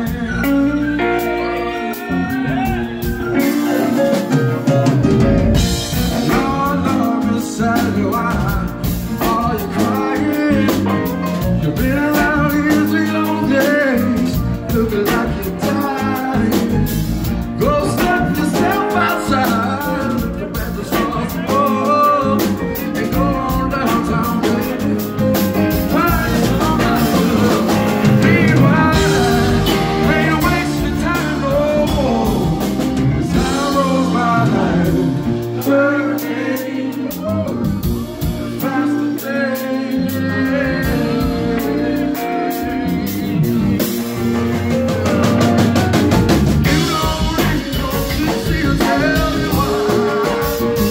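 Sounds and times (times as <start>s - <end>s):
funk band playing: 0.0s - 50.9s.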